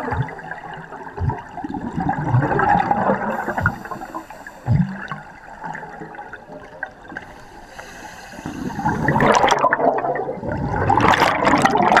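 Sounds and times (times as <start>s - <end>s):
underwater bubbling: 0.0s - 12.0s.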